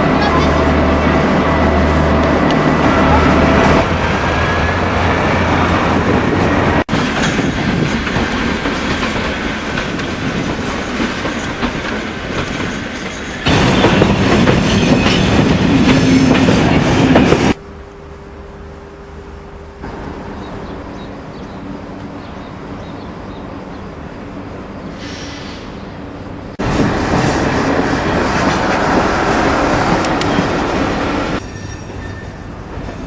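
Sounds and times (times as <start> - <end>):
trains moving through station: 0.0 - 33.0.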